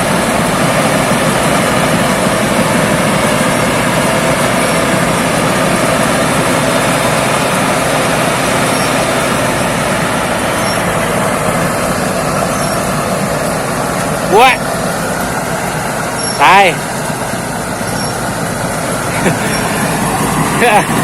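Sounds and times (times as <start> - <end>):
combine harvester running: 0.0 - 21.0.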